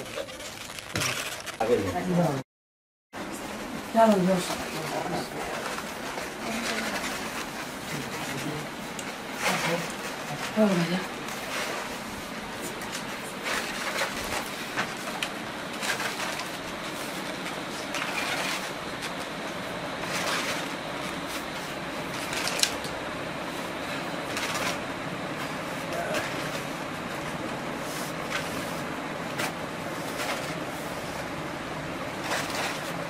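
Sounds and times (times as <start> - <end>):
room background noise: 3.2 - 33.0.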